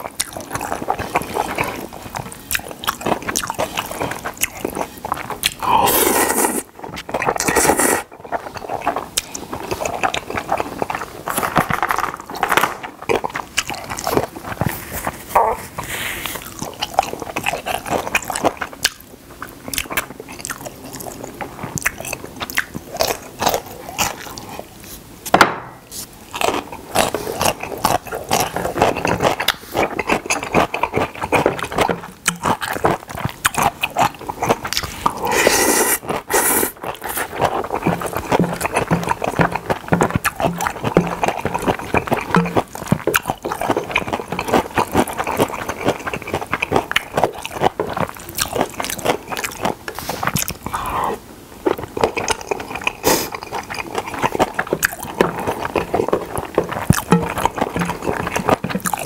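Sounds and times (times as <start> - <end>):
noodles slurped: 0.0 - 18.9, 25.9 - 59.0
wet mouth sounds: 0.0 - 25.1, 25.8 - 59.0
crunching and chewing: 0.0 - 59.0.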